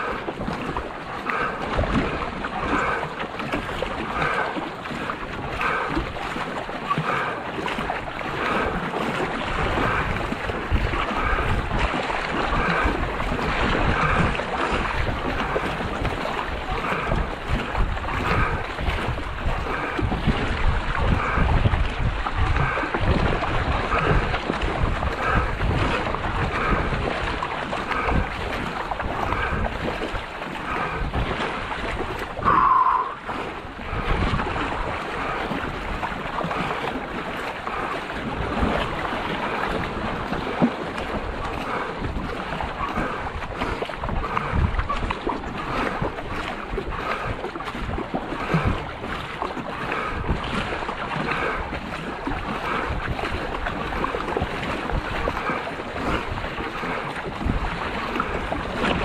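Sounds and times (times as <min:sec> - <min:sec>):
paddle strokes splashing: 0:00.0 - 0:59.0
wind buffeting microphone: 0:00.0 - 0:59.0.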